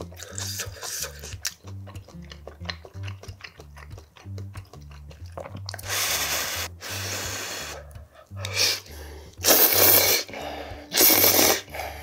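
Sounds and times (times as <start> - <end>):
background music with bass line: 0.0 - 12.0
wet chewing clicks: 0.0 - 12.0.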